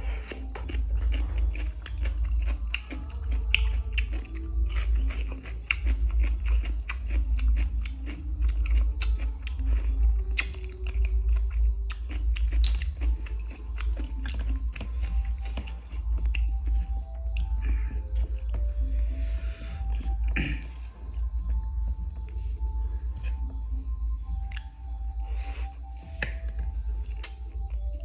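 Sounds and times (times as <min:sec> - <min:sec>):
crunchy chewing: 0:00.0 - 0:28.0
steady low hum: 0:00.0 - 0:28.0.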